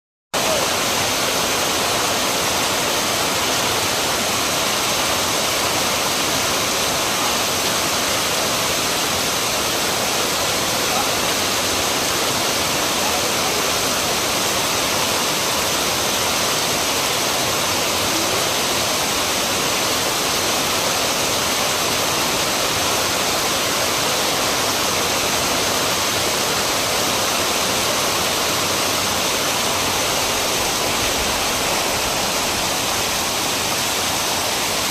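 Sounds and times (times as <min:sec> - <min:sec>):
heavy rain pouring: 0:00.4 - 0:34.9.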